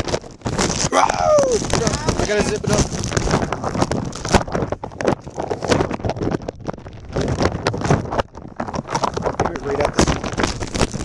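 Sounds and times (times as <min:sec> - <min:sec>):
plastic bag crinkling on microphone: 0:00.0 - 0:11.0.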